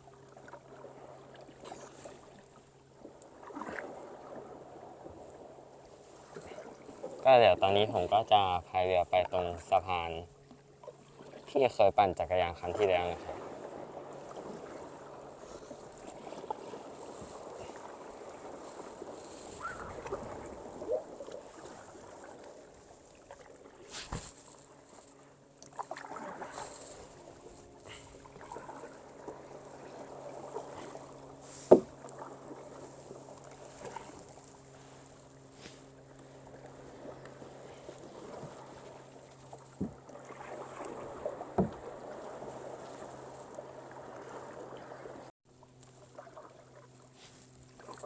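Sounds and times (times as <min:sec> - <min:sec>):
paddle strokes splashing in water: 0:00.0 - 0:08.2, 0:10.4 - 0:11.6, 0:12.6 - 0:48.0
faint steady hum: 0:00.0 - 0:48.0.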